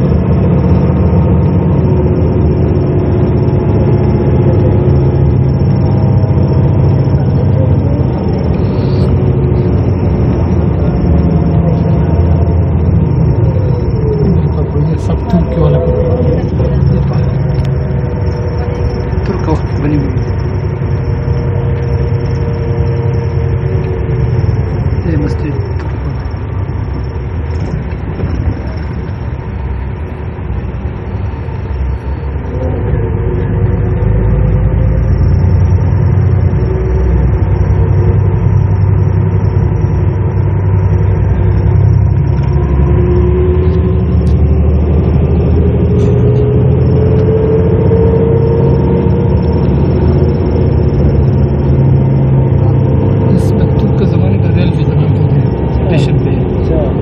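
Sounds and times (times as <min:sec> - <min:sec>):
bus engine and road rumble: 0:00.0 - 0:57.0
faint rising whine: 0:00.0 - 0:57.0.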